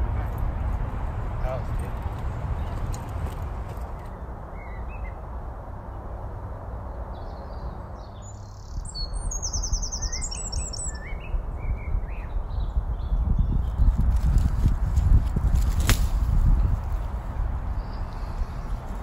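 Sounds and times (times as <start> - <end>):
birds chirping: 0.0 - 6.1, 6.8 - 14.4, 16.4 - 19.0.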